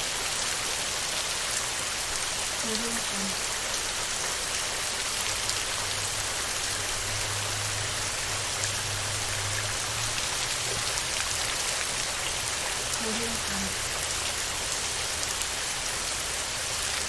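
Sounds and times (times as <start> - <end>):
heavy rain on a metal roof: 0.0 - 17.0.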